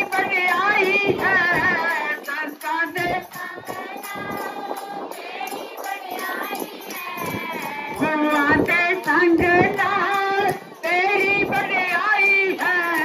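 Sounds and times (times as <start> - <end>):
devotional singing over loudspeaker: 0.0 - 13.0.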